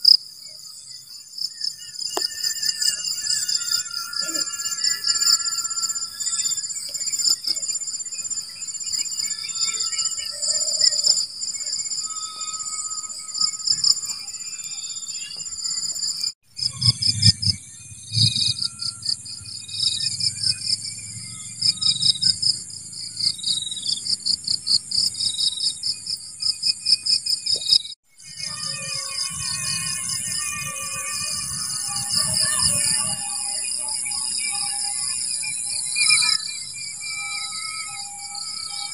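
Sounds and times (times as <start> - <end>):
insects trilling and chirping: 0.0 - 38.9.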